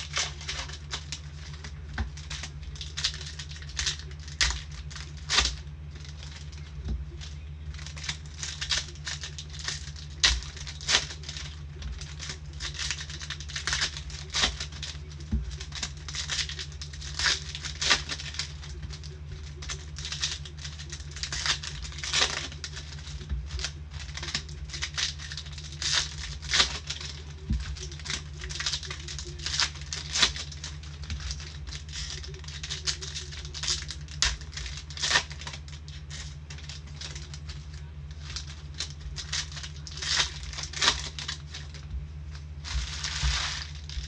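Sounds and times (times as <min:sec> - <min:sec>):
cards shuffled and slid: 0:00.0 - 0:44.0
steady low hum: 0:00.0 - 0:44.0
wrappers crinkling and tearing: 0:00.0 - 0:44.0.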